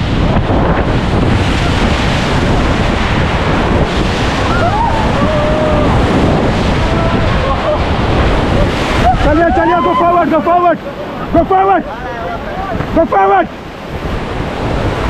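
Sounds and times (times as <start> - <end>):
white water rushing: 0.0 - 15.0
wind buffeting microphone: 0.0 - 15.0.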